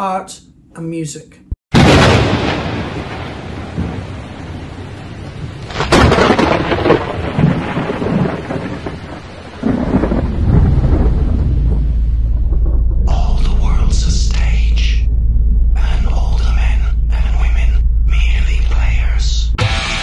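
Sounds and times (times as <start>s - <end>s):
thunder rumble: 1.7s - 19.7s
sharp thunder crack: 1.7s - 20.0s.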